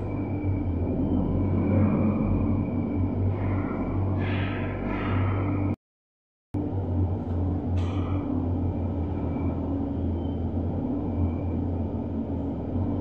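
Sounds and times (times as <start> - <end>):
low machinery hum: 0.0 - 5.8, 6.6 - 13.0.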